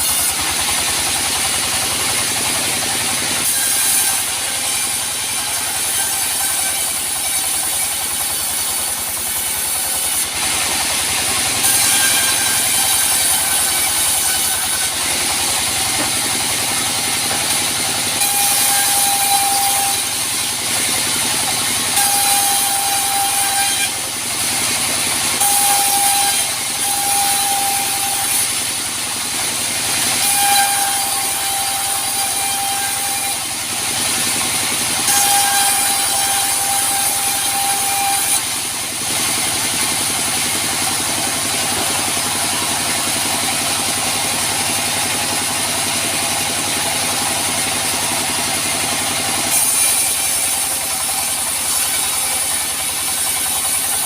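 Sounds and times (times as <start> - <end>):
high saw whine: 0.0 - 54.0
sawmill motor and saw blade: 0.0 - 54.0.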